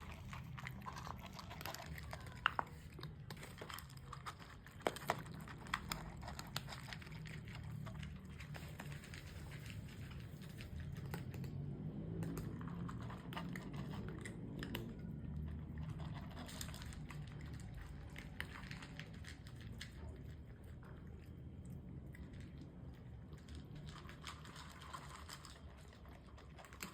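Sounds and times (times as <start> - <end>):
cats chewing food: 0.0 - 26.9
low steady rumble: 0.0 - 26.9.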